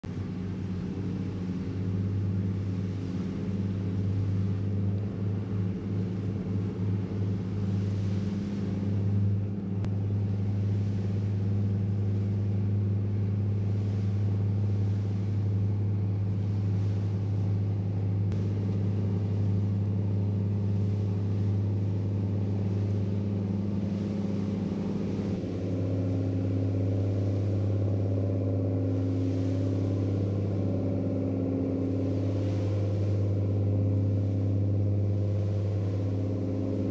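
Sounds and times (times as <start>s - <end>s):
ship engine humming: 0.0s - 36.9s.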